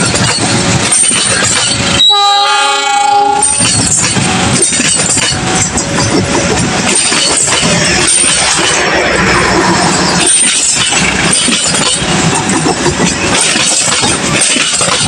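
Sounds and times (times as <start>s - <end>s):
metallic clanks and clatter: 0.0s - 2.0s, 3.4s - 15.0s
train wheels rumbling on rails: 0.0s - 15.0s.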